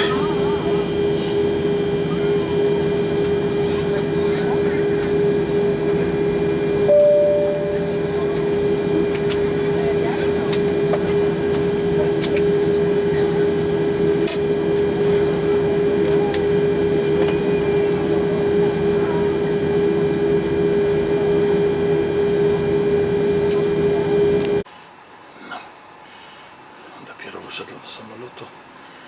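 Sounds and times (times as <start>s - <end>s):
airliner cabin hum: 0.0s - 24.6s.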